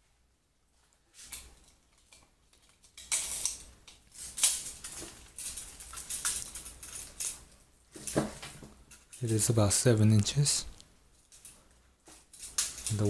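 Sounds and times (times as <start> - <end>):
rustling and scraping objects: 0.7 - 13.0.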